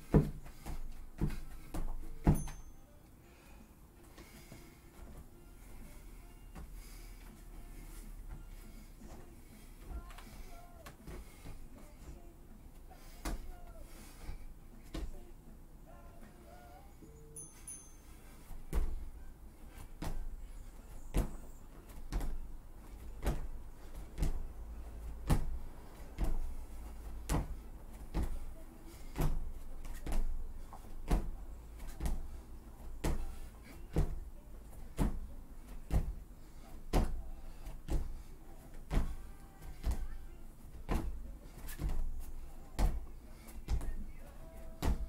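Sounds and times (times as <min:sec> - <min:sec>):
footfalls on foam mats: 0:00.0 - 0:02.7, 0:06.5 - 0:12.2, 0:13.0 - 0:15.2, 0:18.4 - 0:45.0.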